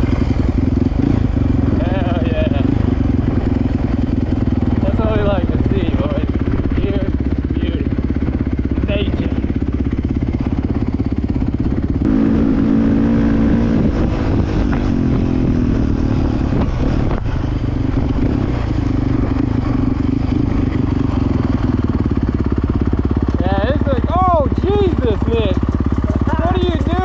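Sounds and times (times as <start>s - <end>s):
dirt bike engine running: 0.0s - 27.0s.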